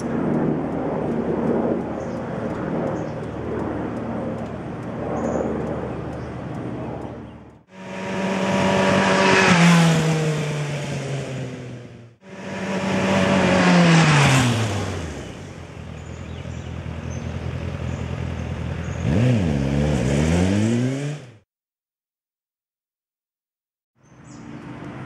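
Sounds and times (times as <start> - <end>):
motorcycle passing: 0.0 - 21.5.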